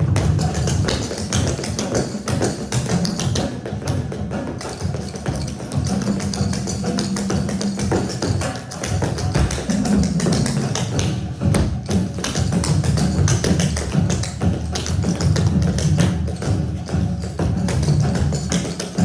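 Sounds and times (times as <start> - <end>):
rapid percussive tapping: 0.0 - 19.0.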